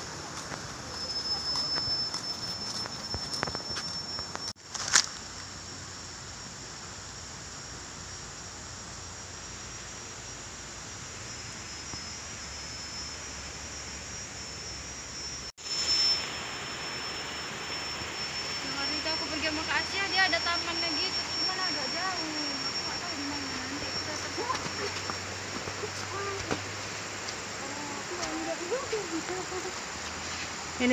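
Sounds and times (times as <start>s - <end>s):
forest ambience hiss: 0.0s - 30.9s
high-pitched insect drone: 0.0s - 30.9s.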